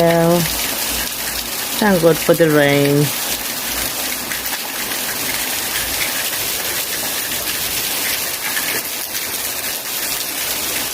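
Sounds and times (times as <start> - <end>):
raindrops pattering on surfaces: 0.0 - 10.9
steady rain: 0.0 - 10.9.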